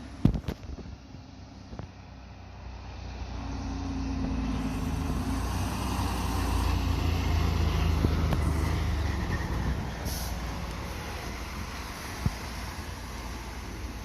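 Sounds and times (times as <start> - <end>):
fire truck diesel engine passing: 2.0 - 14.0.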